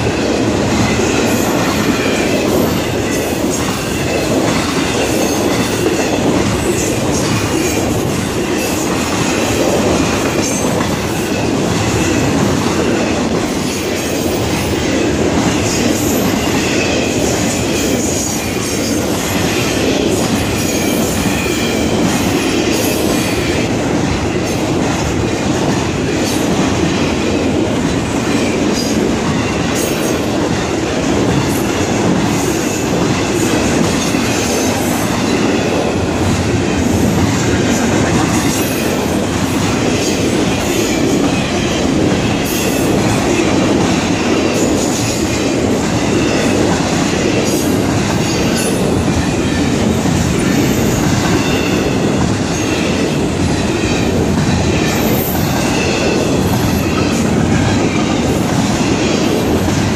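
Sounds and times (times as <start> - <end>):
steel wheels rolling on rail: 0.0 - 59.9.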